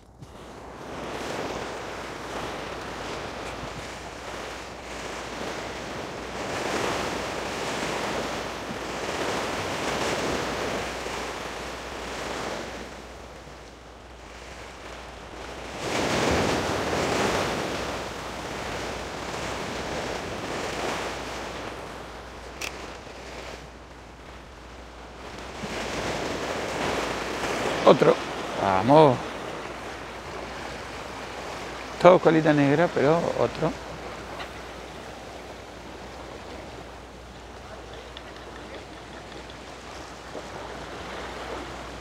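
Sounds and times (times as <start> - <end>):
sea waves on rocks: 0.0 - 42.0.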